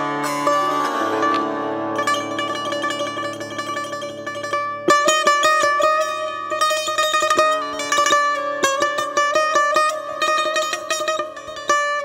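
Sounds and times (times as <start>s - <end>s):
plucked lute notes: 0.0s - 12.0s.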